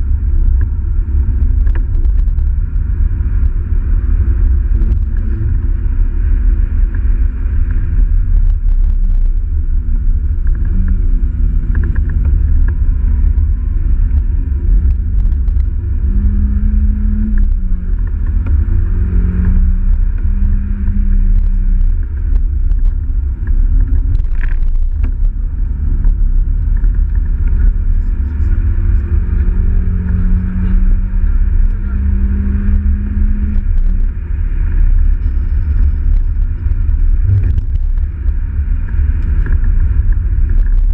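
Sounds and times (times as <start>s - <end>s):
car engine revving: 0.0s - 40.9s
road and wind noise: 0.0s - 40.9s.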